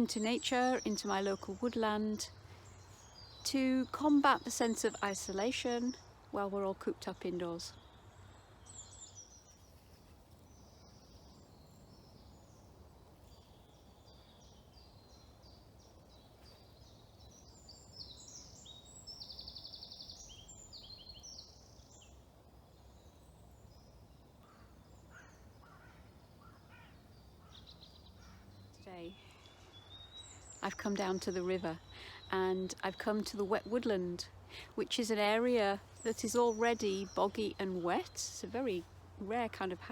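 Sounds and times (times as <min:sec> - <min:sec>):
low steady background hum: 0:00.0 - 0:39.9.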